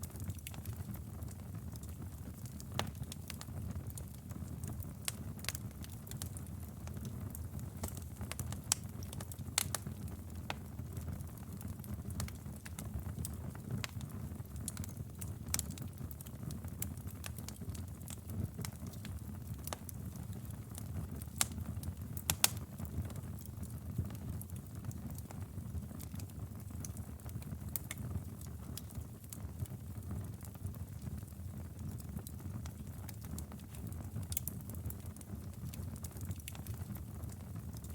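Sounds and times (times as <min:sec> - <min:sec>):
campfire burning: 0:00.0 - 0:37.9
wood crackling and popping: 0:00.0 - 0:37.9.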